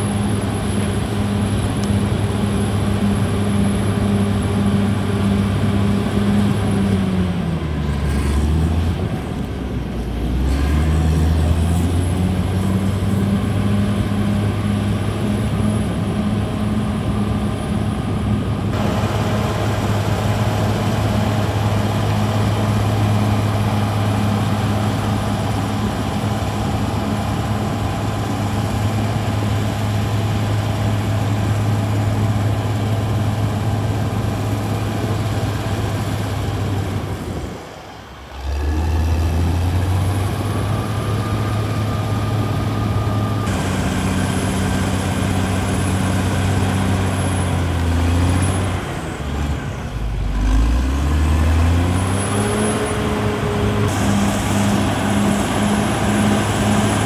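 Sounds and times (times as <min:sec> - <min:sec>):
bulldozer diesel engine humming: 0:00.0 - 0:57.0.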